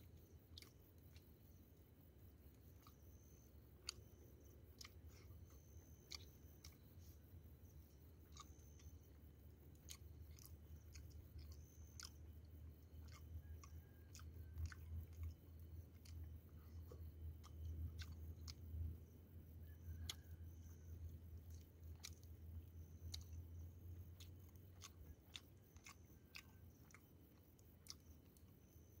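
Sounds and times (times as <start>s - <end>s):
person chewing: 0.0s - 1.6s, 2.6s - 20.8s, 21.4s - 29.0s
low steady hum: 0.0s - 29.0s.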